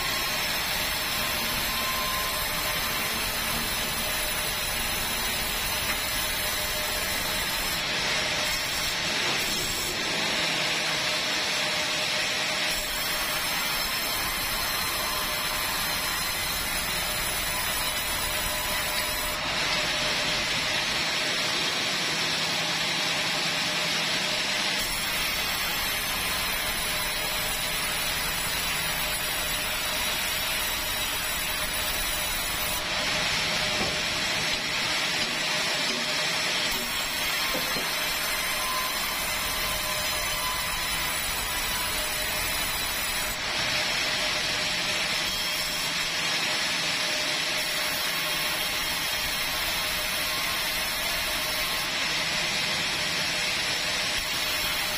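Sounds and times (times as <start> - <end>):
band saw running: 0.0 - 54.9.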